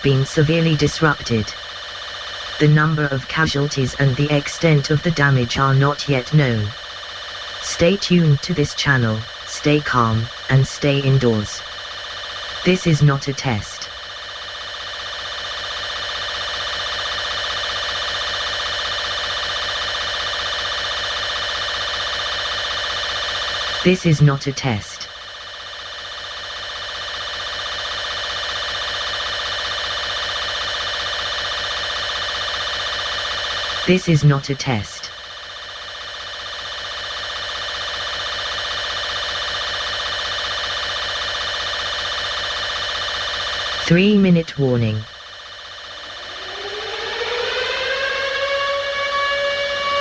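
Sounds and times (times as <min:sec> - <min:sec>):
fluttering multi-pitched alarm tone: 0:00.0 - 0:50.0.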